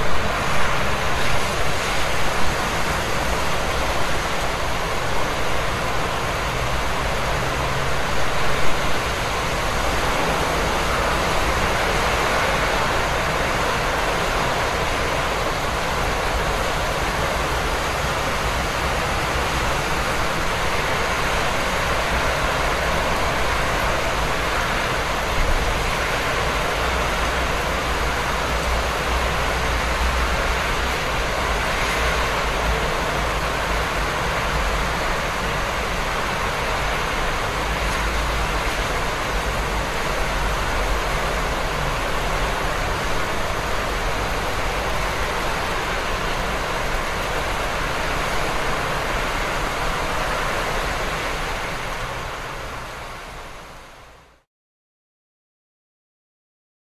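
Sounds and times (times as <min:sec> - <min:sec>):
steady rain hiss: 0:00.0 - 0:54.4.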